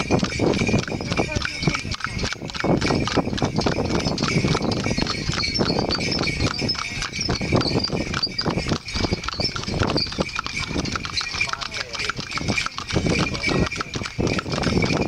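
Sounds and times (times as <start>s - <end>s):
horse hooves clip-clopping on pavement: 0.0s - 15.0s.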